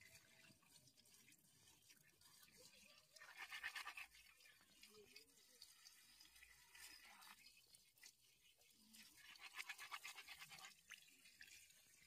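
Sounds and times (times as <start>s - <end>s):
wet rubbing and splashing: 0.0s - 12.0s.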